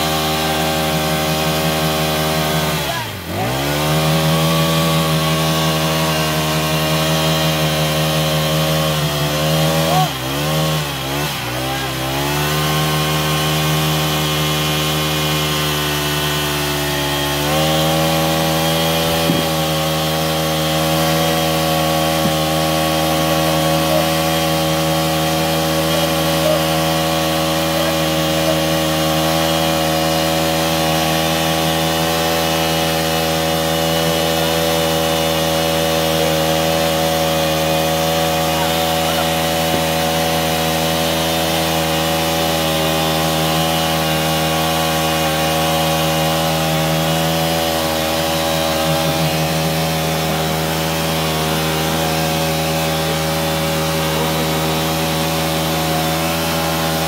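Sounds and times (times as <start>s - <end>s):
drilling rig engine running: 0.0s - 57.0s.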